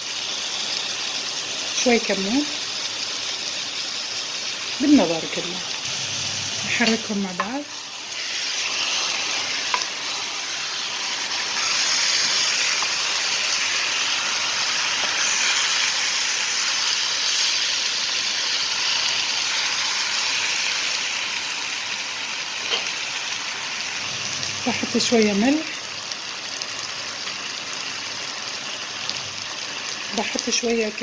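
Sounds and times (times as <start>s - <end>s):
food sizzling in hot oil: 0.0s - 31.0s.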